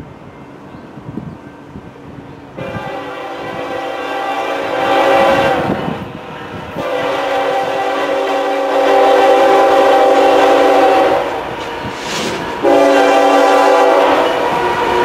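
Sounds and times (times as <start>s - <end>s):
locomotive air horn blasts: 2.6s - 15.0s.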